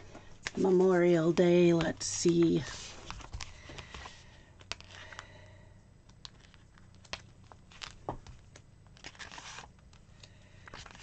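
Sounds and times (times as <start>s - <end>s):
paper pages turning and rustling: 0.4s - 5.2s, 6.2s - 11.0s.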